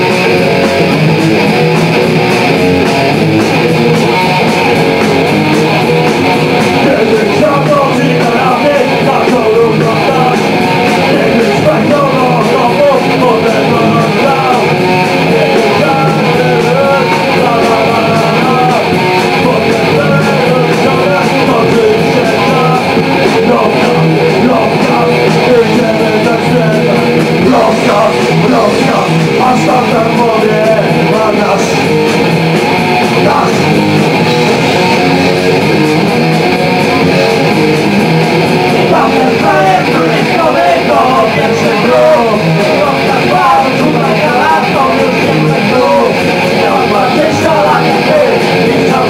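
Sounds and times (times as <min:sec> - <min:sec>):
drums: 0:00.0 - 0:49.0
loud electric guitar: 0:00.0 - 0:49.0.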